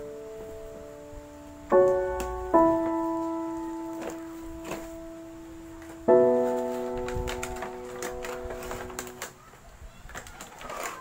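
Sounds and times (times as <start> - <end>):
slow piano chords: 0.0 - 9.4.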